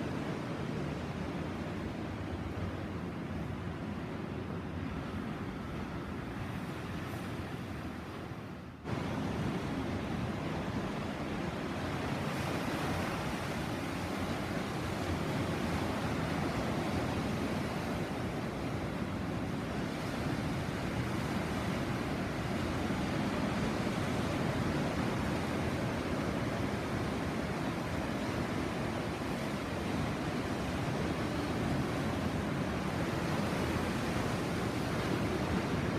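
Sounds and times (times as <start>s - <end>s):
waves breaking on shore: 0.0s - 35.9s.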